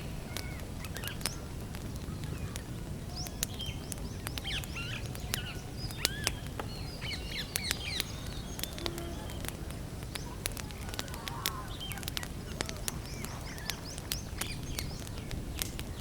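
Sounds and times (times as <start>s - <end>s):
campfire crackling and popping: 0.0s - 16.0s
small birds chirping: 0.0s - 16.0s.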